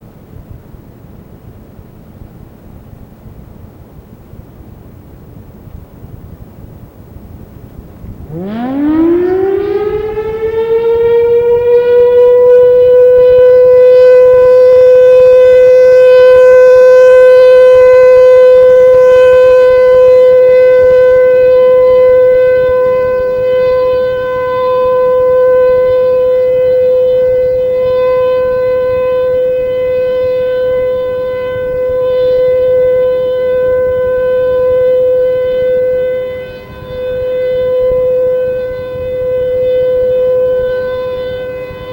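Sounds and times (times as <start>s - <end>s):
civil defense siren: 7.8s - 41.9s.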